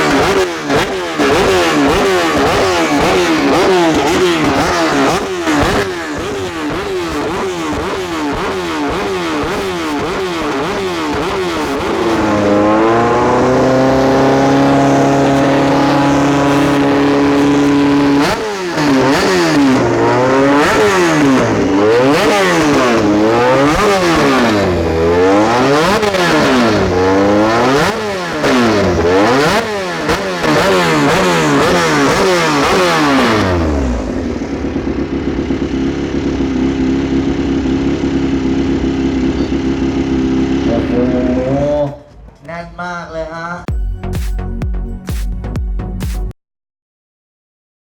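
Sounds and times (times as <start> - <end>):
motorcycle engines revving: 0.0 - 43.5.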